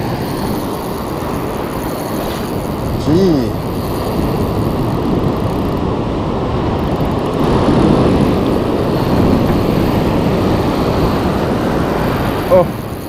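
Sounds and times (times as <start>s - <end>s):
breaking surf: 0.0s - 13.0s
wind: 0.0s - 13.0s.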